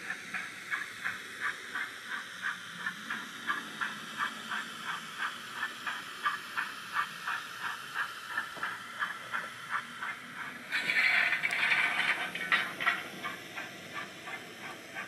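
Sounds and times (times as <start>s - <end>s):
model steam locomotive chuffs: 0.0s - 15.0s
steady hiss: 0.0s - 15.0s.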